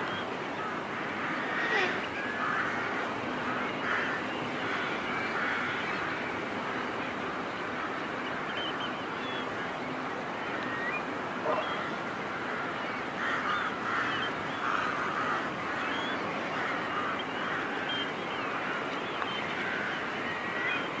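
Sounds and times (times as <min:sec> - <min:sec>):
flock of birds calling: 0:00.0 - 0:21.0.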